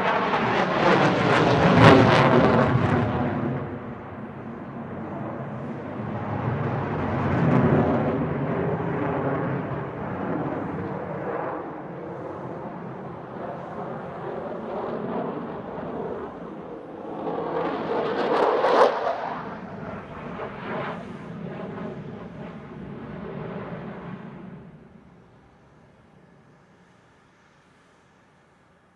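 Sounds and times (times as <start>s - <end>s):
loud rushing jet noise: 0.0s - 25.2s.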